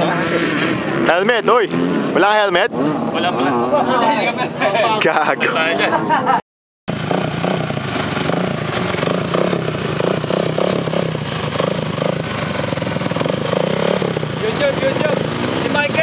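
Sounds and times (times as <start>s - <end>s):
dirt bike engine revving: 0.0s - 4.3s, 6.9s - 16.0s.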